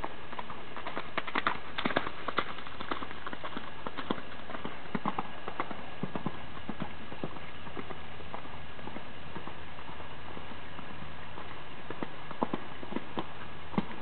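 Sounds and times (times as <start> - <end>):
hooves cantering on wet sand: 0.0 - 14.0.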